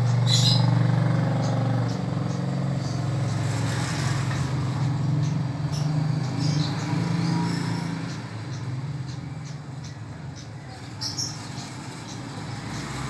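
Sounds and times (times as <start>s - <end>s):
high bird chirps: 0.0s - 13.0s.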